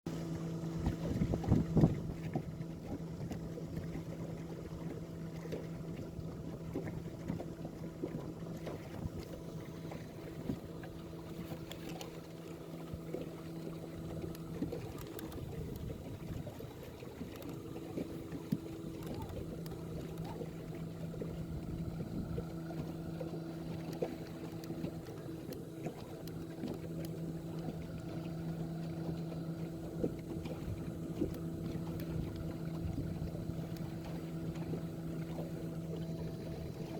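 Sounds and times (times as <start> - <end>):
boat motor humming: 0.1 - 36.9
water washing against hull: 0.1 - 36.9.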